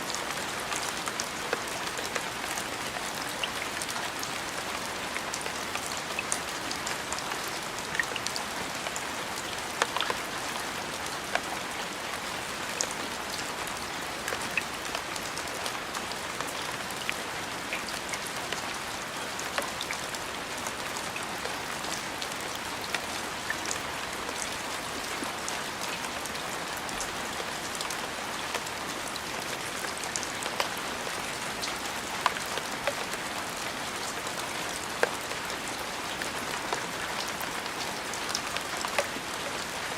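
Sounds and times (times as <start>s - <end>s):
rain falling: 0.0s - 39.9s
raindrops ticking on a surface: 0.1s - 39.9s.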